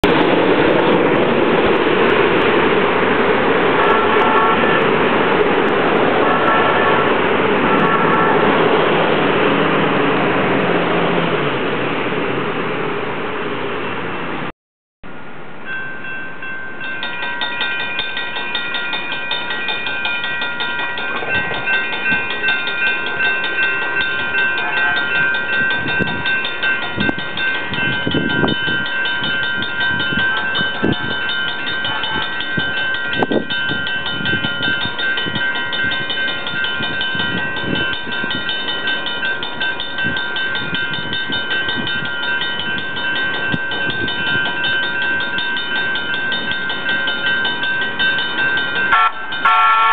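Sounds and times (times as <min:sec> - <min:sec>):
railroad crossing bell ringing: 0:00.0 - 0:10.3, 0:15.6 - 0:49.9.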